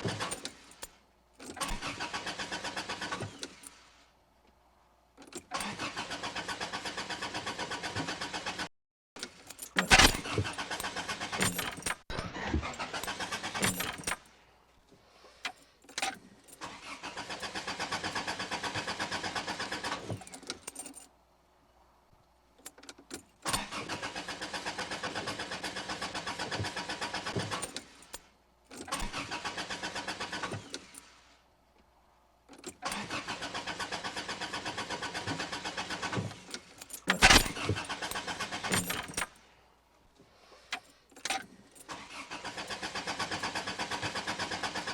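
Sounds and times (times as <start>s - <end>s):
car engine cranking without starting: 0.0s - 3.7s, 5.2s - 14.3s, 15.2s - 21.0s, 22.7s - 28.1s, 28.7s - 31.2s, 32.6s - 39.5s, 40.5s - 44.9s.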